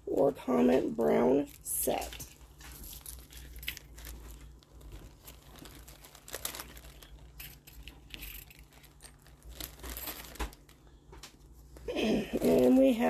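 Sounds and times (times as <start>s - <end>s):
plastic bags crinkling: 0.2s - 13.0s.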